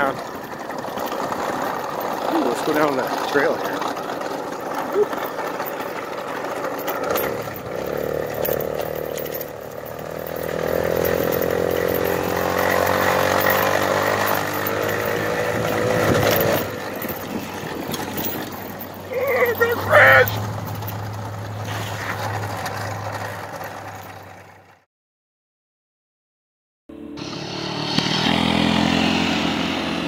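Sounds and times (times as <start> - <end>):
bumps from trail: 0.0 - 24.6
moped engine running: 0.0 - 24.8, 27.0 - 30.0.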